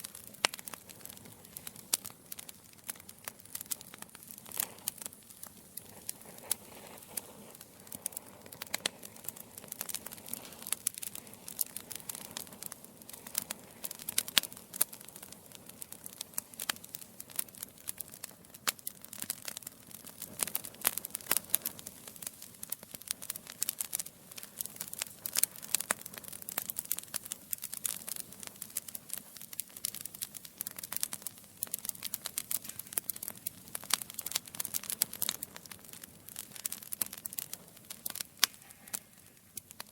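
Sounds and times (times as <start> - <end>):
low rush of flames: 0.0 - 39.8
wood fire crackling and popping: 0.0 - 39.9.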